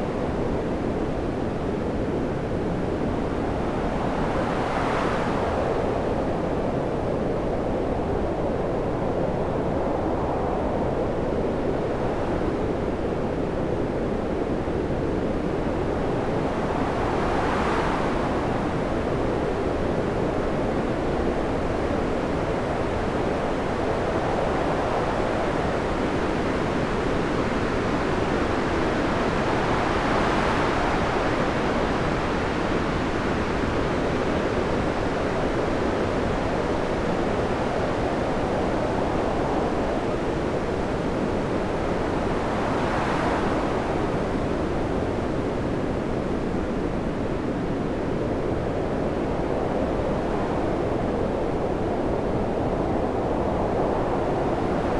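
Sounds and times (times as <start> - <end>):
waves breaking in roaring surf: 0.0 - 54.9.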